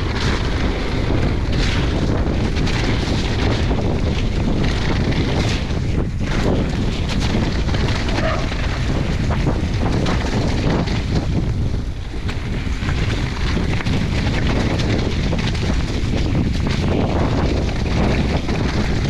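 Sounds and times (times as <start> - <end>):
bike tyres and frame rattling: 0.0 - 19.0
wind buffeting microphone: 0.0 - 19.0.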